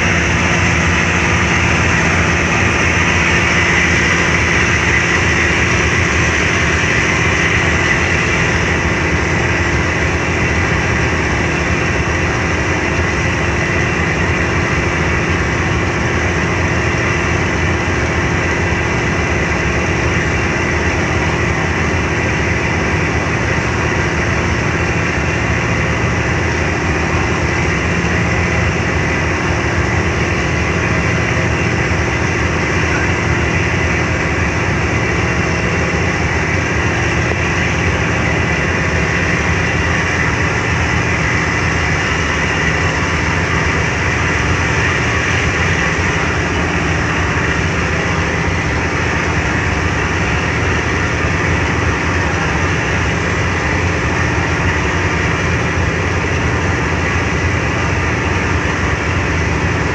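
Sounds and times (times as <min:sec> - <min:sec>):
churned water rushing: 0:00.0 - 0:59.9
ferry engines droning: 0:00.0 - 0:59.9.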